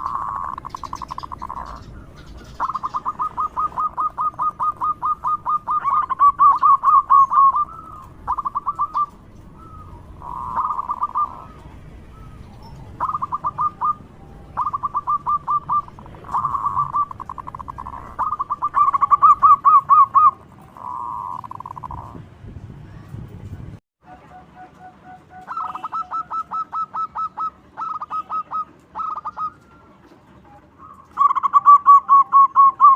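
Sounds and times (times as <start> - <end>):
dove cooing: 0.0 - 22.2, 24.1 - 29.8, 30.8 - 32.9.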